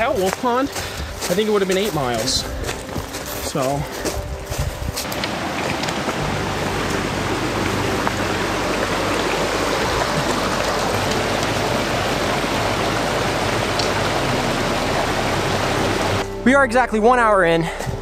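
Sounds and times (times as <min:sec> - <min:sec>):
stream water rushing: 0:00.0 - 0:16.3.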